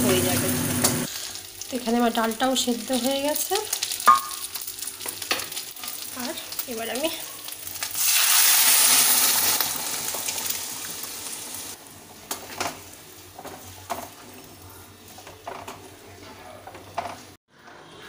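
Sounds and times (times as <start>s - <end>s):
food sizzling in hot oil: 0.0s - 15.3s.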